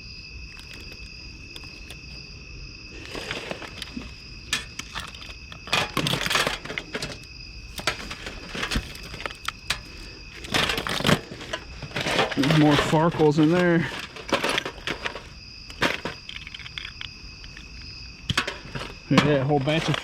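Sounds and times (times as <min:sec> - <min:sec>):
crickets chirring: 0:00.0 - 0:20.0
small objects rummaged through: 0:02.9 - 0:20.0.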